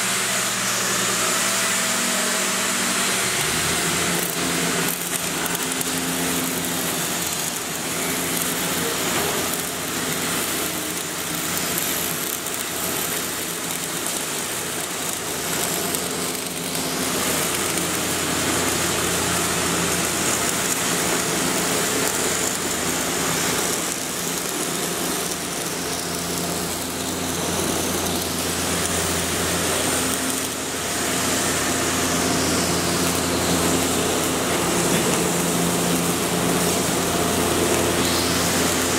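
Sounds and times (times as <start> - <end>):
arc welding crackling hiss: 0.0 - 38.9
low machine hum: 0.0 - 38.9.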